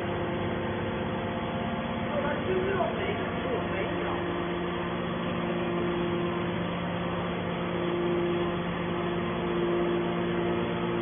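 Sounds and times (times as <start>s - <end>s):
high whine: 0.0s - 11.0s
hydraulic motor and pump hum: 0.0s - 11.0s.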